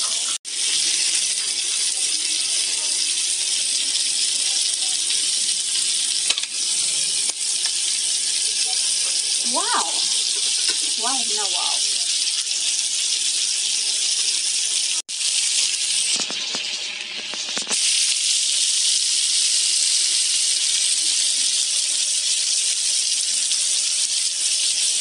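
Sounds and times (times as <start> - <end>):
squid sizzling on a hot pan: 0.0 - 25.0.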